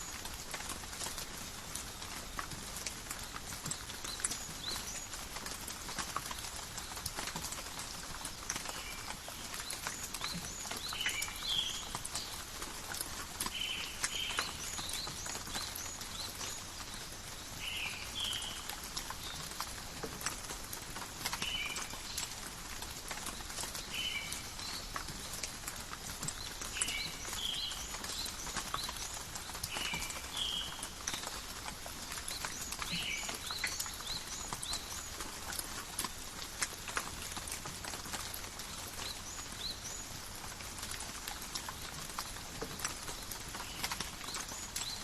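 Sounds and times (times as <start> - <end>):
rain pattering on leaves: 0.0 - 45.0.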